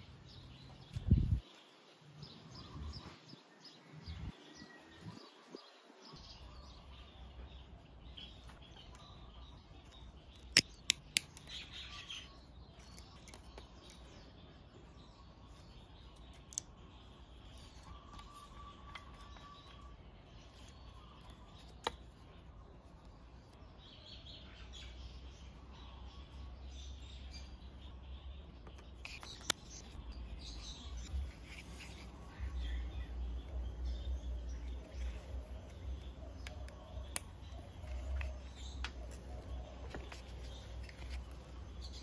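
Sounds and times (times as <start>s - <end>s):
faint birds chirping: 0.0s - 42.0s.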